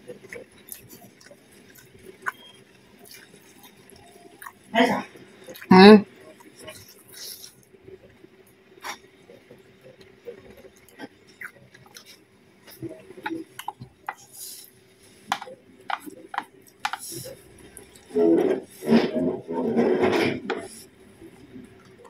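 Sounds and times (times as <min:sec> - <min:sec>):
chewing and mouth noises: 0:00.0 - 0:08.2, 0:08.8 - 0:18.9.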